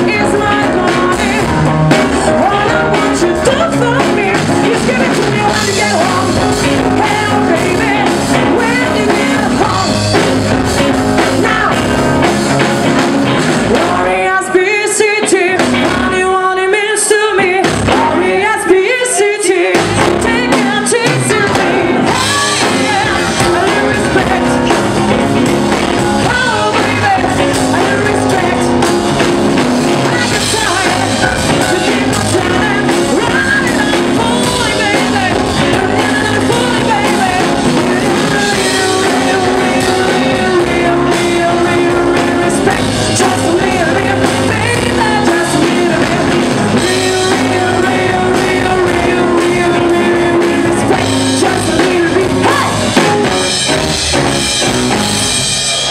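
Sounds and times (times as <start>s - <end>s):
woman singing lead: 0.0s - 54.6s
live rock band playing: 0.0s - 55.9s.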